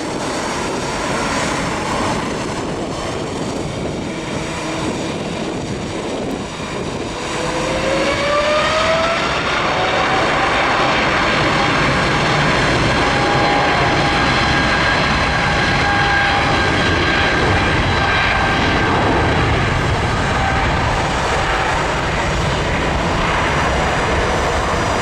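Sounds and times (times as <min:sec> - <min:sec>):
jet engines roaring with whine: 0:00.0 - 0:25.0.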